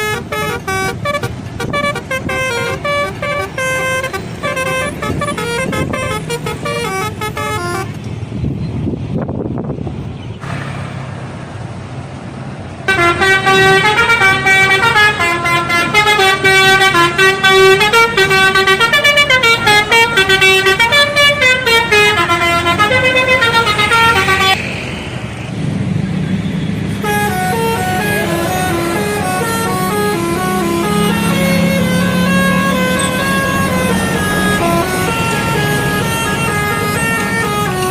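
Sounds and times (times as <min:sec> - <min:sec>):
bus horn playing melody: 0:00.0 - 0:08.0, 0:12.8 - 0:24.7, 0:26.9 - 0:37.9
bus engine running: 0:00.0 - 0:37.9.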